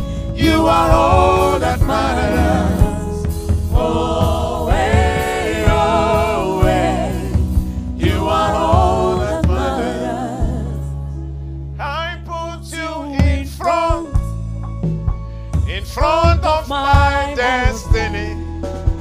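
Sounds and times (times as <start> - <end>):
gospel choir singing: 0.0 - 14.3, 15.7 - 18.5
band with bass and drums: 0.0 - 19.0.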